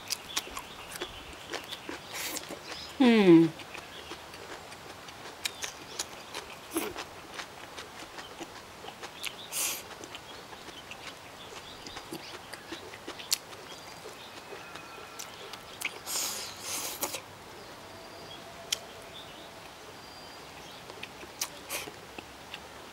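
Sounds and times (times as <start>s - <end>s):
person chewing: 0.0s - 17.2s, 20.9s - 22.6s.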